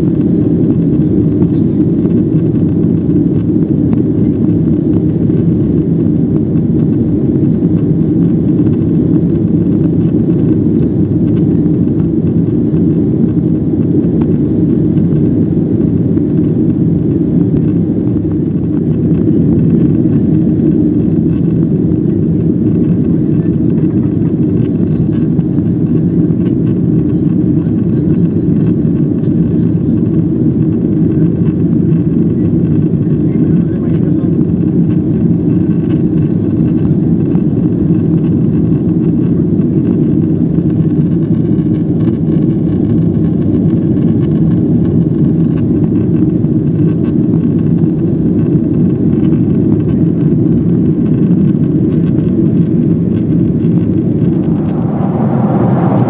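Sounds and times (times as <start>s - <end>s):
aircraft cabin engine drone: 0.0s - 56.0s.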